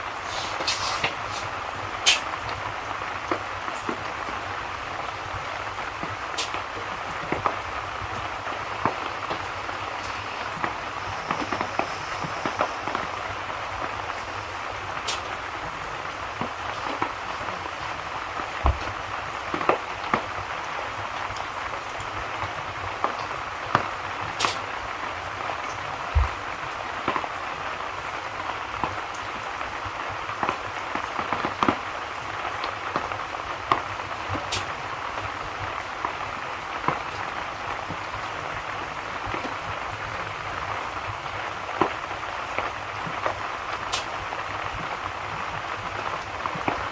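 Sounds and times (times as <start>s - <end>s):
steady rain: 0.0s - 46.9s
wood fire crackling: 0.0s - 46.9s.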